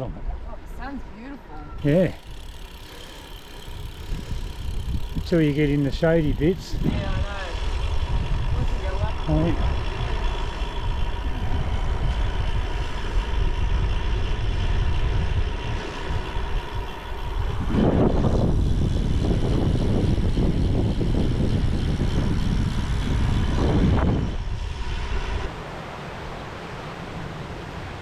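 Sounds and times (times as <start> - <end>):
wind buffeting microphone: 0.0 - 25.5
bicycle rolling on gravel: 1.8 - 25.6.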